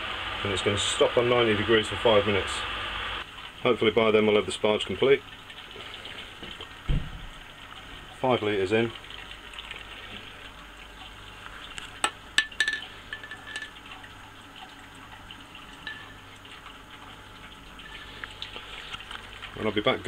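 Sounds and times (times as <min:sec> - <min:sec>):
water trickling onto metal plate: 0:03.2 - 0:20.0.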